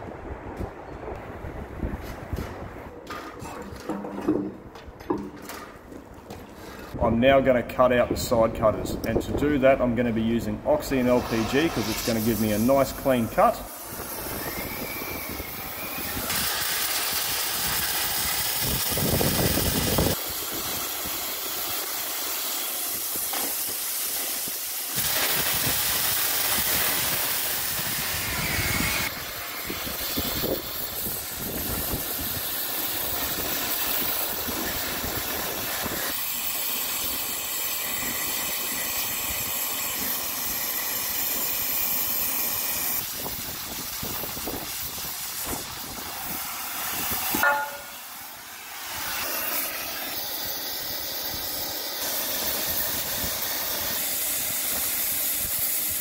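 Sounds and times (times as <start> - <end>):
cutting torch hissing: 10.7 - 56.0.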